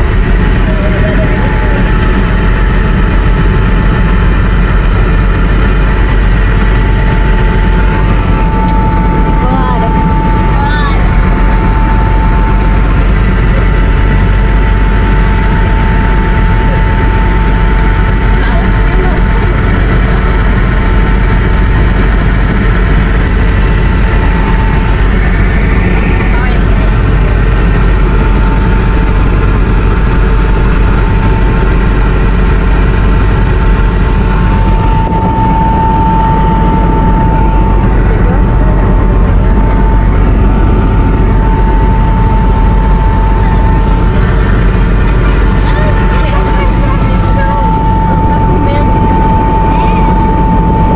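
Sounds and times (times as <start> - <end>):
helicopter engine and rotor rumble: 0.0 - 50.9
high whine: 0.0 - 50.9.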